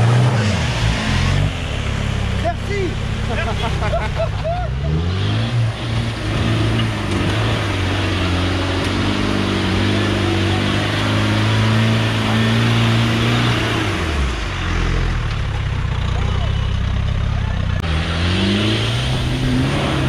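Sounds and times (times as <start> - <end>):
engine at high revs: 0.0 - 15.7, 17.5 - 20.0
tyres churning through mud: 0.0 - 20.0.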